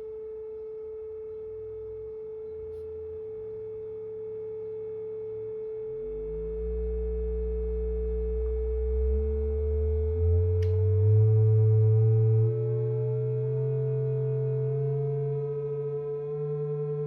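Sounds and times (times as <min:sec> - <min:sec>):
low gliding square-wave tone: 0:00.0 - 0:17.0
steady sine-wave tone: 0:00.0 - 0:17.0.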